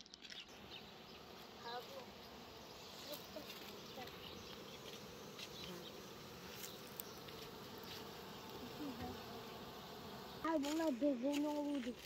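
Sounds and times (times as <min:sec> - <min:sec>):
honeybees buzzing: 0:00.3 - 0:12.0.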